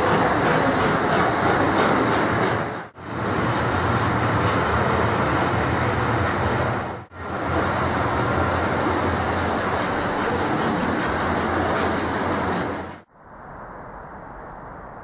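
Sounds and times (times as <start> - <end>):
wheels rolling on track: 0.0 - 13.0.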